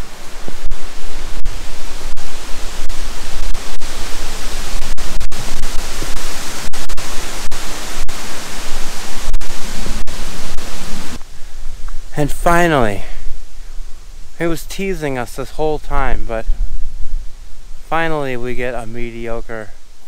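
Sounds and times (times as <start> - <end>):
steady hiss-like rushing noise: 0.0 - 20.0.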